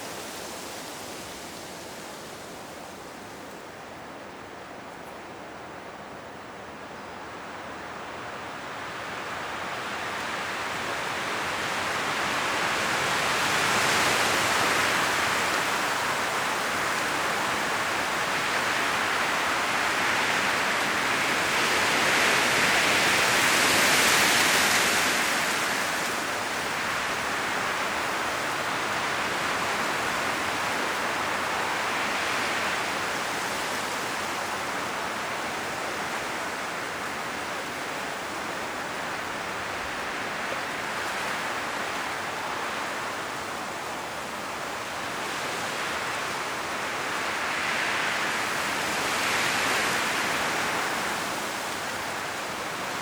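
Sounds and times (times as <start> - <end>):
wind gusting through trees: 0.0 - 53.0.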